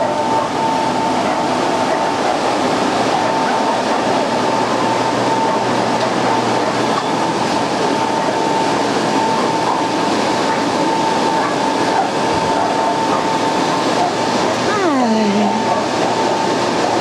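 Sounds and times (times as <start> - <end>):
high whine: 0.0 - 17.0
ventilation fan whirring: 0.0 - 17.0.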